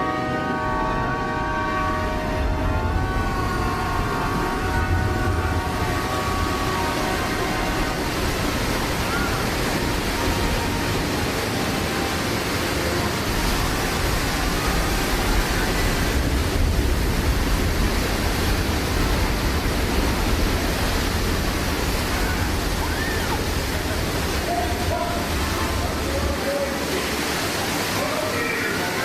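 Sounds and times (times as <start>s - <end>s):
rushing water: 0.0s - 29.0s
deep rumble: 0.6s - 12.0s, 13.2s - 27.9s.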